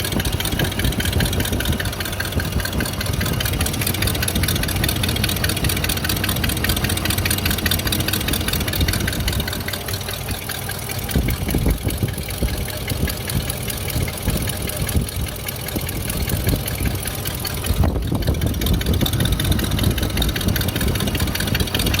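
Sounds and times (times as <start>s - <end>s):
engine idling: 0.0s - 22.0s
fast mechanical ticking: 0.0s - 22.0s.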